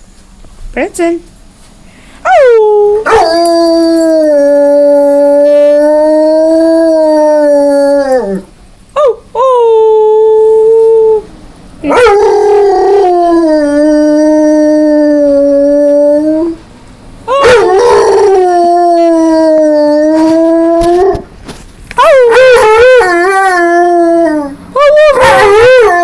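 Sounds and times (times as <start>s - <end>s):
dog howling: 2.2s - 16.6s, 17.2s - 21.2s, 22.0s - 26.0s.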